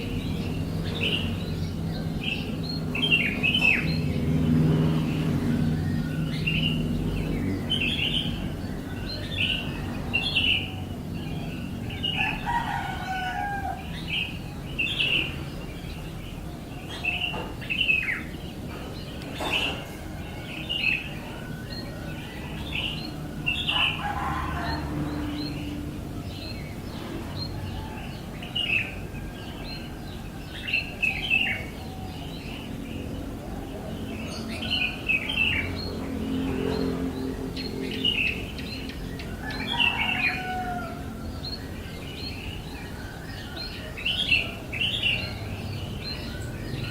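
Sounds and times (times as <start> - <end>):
bird chirping: 0.0 - 46.9.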